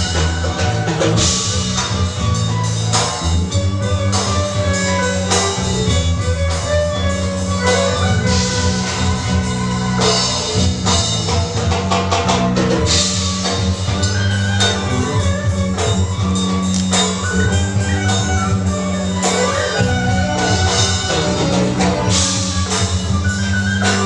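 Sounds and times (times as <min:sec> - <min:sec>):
drum and percussion beat: 0:00.0 - 0:24.0
held low bass notes: 0:00.0 - 0:24.0.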